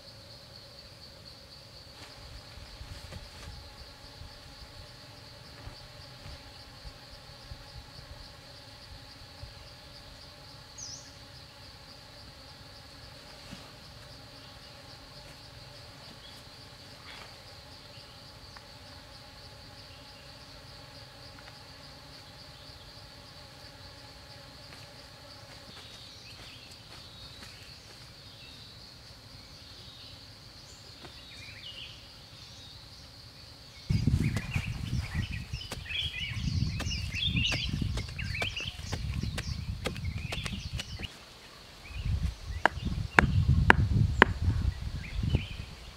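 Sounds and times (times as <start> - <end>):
high insect trill: 0.0 - 45.9.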